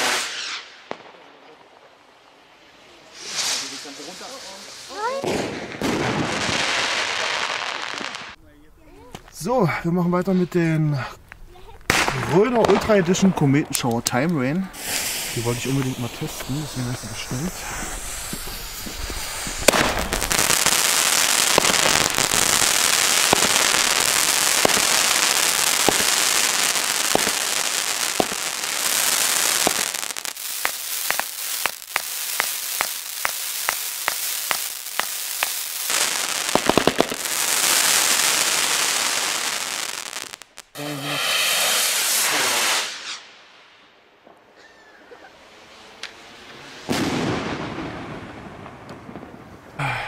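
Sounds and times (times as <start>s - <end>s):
firework comets hissing: 0.0s - 1.1s, 3.0s - 43.5s
firework cracks: 0.0s - 1.6s, 3.1s - 8.4s, 11.2s - 44.4s, 45.5s - 50.0s.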